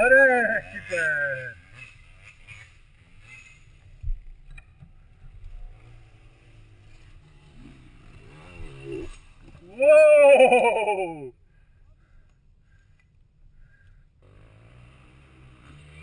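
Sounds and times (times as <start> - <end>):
faint dirt bike engines revving: 0.0 - 16.0.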